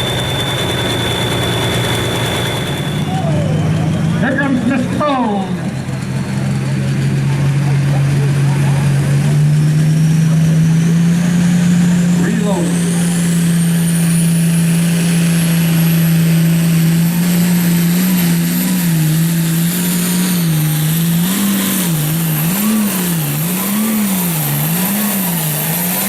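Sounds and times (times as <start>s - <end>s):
tractor engine running flat out: 0.0s - 26.0s.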